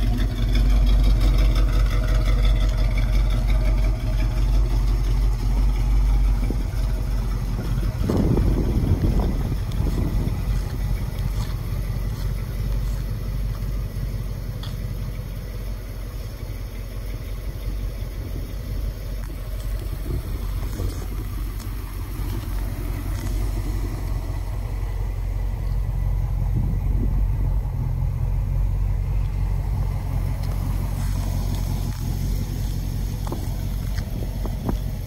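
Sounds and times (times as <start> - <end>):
engine idling rumble: 0.0 - 35.0.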